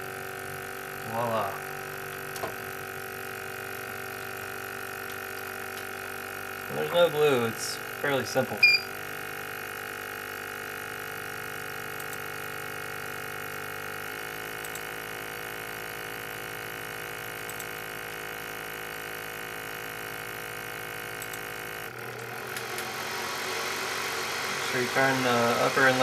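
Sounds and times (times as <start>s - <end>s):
rework station machine hum: 0.0s - 26.0s.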